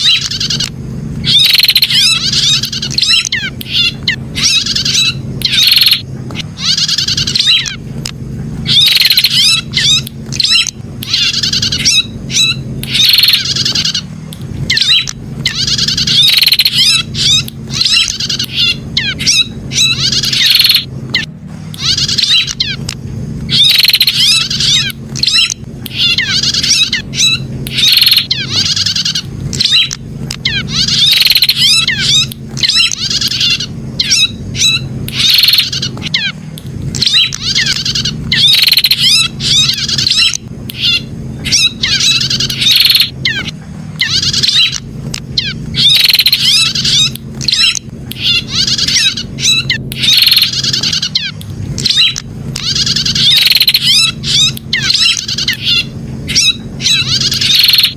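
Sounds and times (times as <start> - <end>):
bird chirping in rapid bursts: 0.0 - 8.0, 8.6 - 57.9
steady low hum: 0.0 - 57.9.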